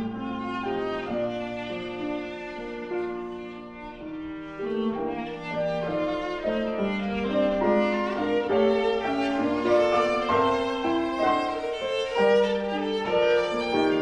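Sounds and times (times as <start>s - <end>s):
piano accompaniment: 0.0s - 14.0s
viola playing bowed melody: 0.0s - 14.0s.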